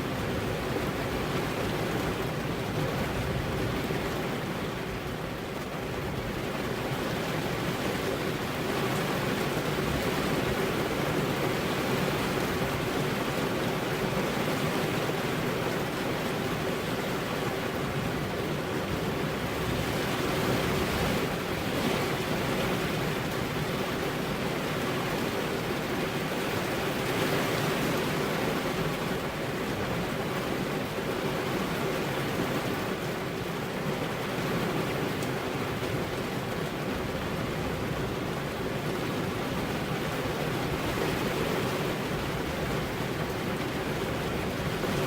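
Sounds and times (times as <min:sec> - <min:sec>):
rain on car windows: 0:00.0 - 0:45.0.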